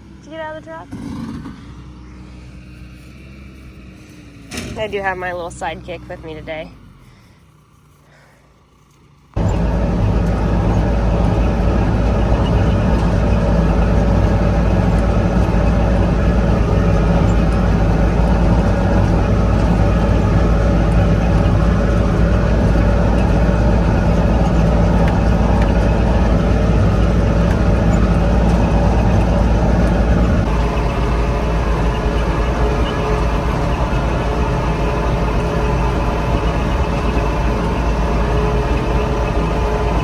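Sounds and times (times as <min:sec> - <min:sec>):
large vehicle engine droning: 0:00.0 - 0:40.0.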